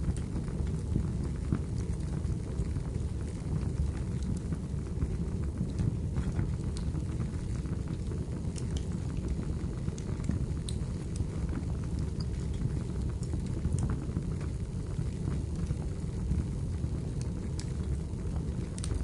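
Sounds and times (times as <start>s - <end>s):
fire rumbling: 0.0s - 19.0s
firewood crackling and popping: 0.0s - 19.0s.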